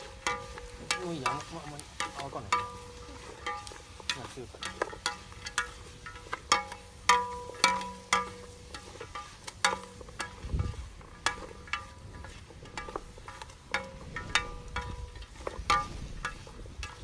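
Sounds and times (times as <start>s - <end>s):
metal utensil clinking on cooking pot: 0.0s - 17.0s.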